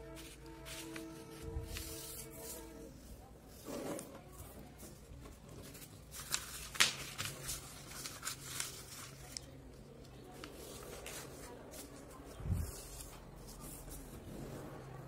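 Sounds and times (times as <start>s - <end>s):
paper rustling and crinkling: 0.1s - 14.5s.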